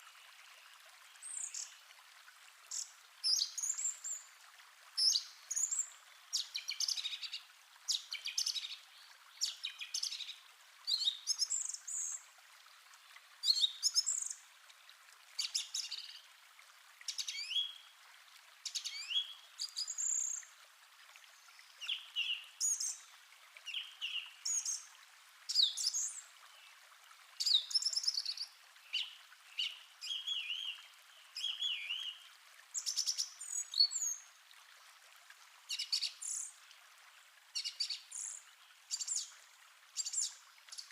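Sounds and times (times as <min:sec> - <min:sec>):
faint steady hiss: 0:00.0 - 0:40.9.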